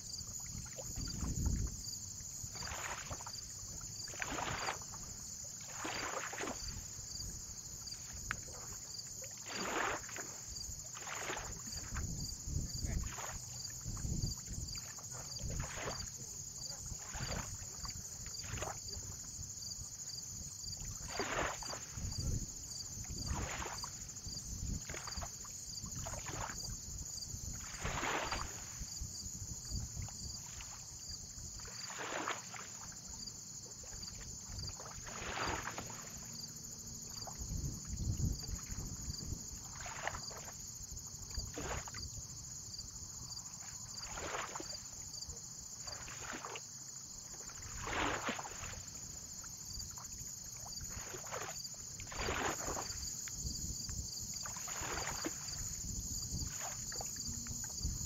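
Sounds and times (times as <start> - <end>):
small waves lapping and splashing: 0.0 - 58.0.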